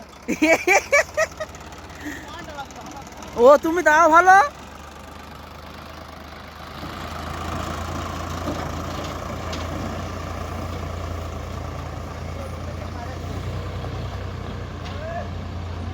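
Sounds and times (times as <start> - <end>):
tractor diesel engine revving: 0.0 - 15.9.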